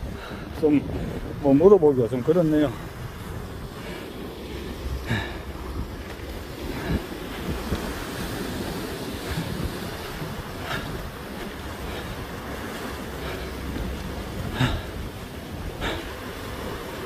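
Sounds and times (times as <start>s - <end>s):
waves breaking over rocks: 0.0s - 17.0s
wind buffeting microphone: 0.0s - 17.0s.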